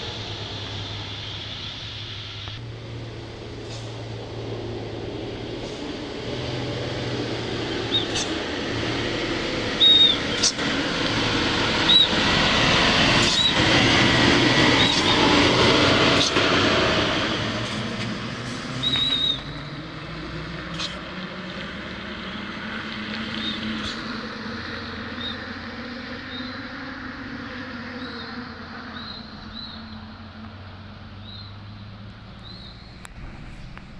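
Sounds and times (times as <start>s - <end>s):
diesel truck engine working hard: 0.0s - 33.9s.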